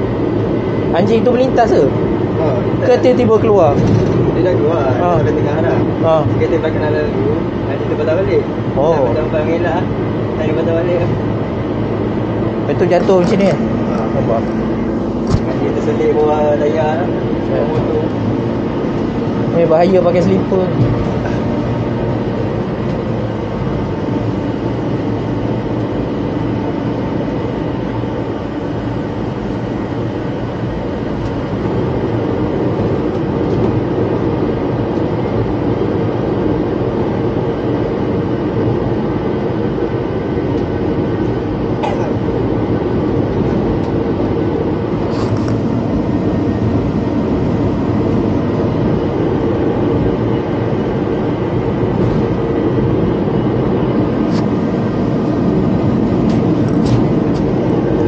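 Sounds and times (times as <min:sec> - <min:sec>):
vehicle engine hum and whine: 0:00.0 - 0:58.0.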